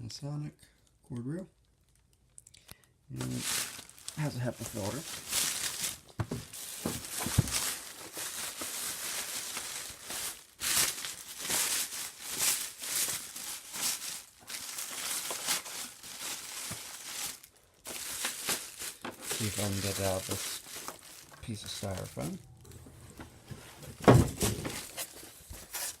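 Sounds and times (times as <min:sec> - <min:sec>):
plastic packaging crinkling: 0:01.6 - 0:26.0.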